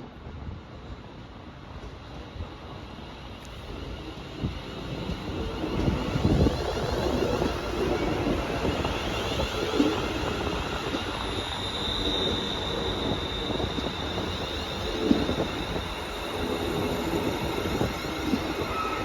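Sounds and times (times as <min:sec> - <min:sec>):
train wheels rumbling: 0:01.7 - 0:19.0
high steady squeal: 0:03.4 - 0:19.0.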